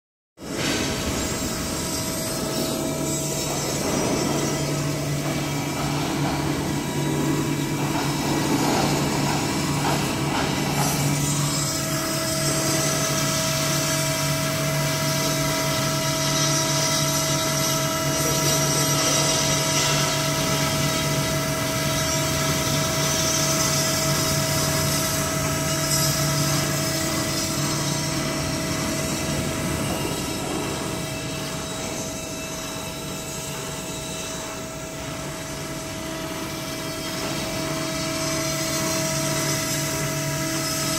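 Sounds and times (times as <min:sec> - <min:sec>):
engraving spindle whine: 0:00.4 - 0:40.9.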